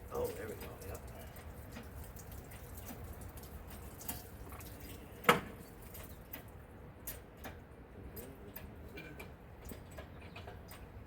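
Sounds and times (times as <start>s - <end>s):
light clicks and knocks: 0.2s - 11.0s.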